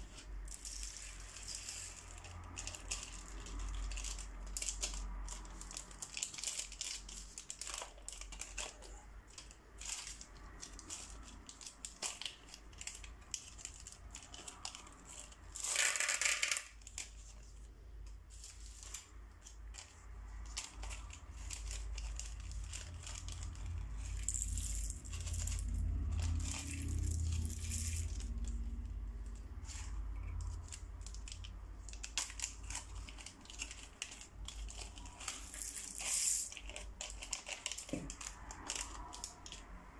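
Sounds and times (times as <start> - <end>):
plastic bags crinkling: 0.0 - 39.9
plastic beads clicking and spilling: 0.0 - 39.9.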